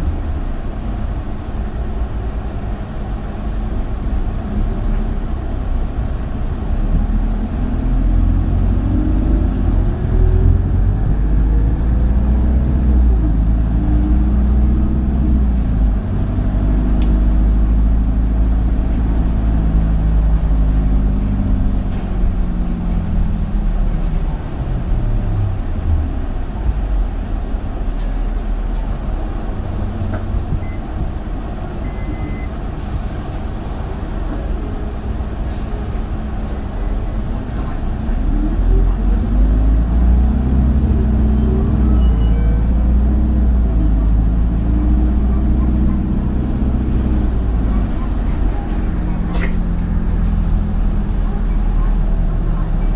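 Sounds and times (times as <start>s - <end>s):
bus diesel engine: 0.0s - 52.9s.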